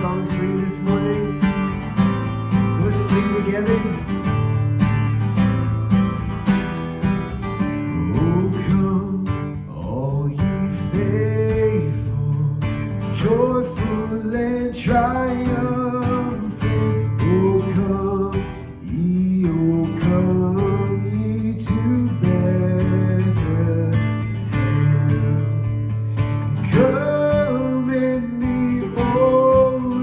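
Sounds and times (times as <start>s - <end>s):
strummed acoustic guitar music: 0.0s - 30.0s.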